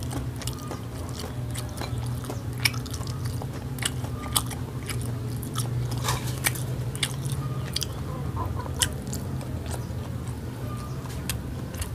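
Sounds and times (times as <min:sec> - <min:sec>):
person chewing food: 0:00.0 - 0:11.9.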